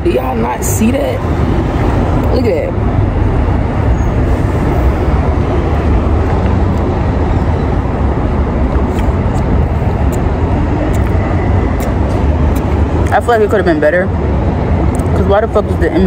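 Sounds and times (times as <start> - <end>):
low rumble of street noise: 0.0 - 16.0.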